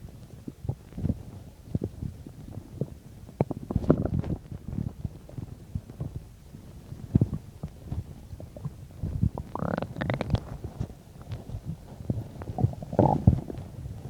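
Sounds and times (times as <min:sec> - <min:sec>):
stomach gurgling and rumbling: 0:00.0 - 0:14.0.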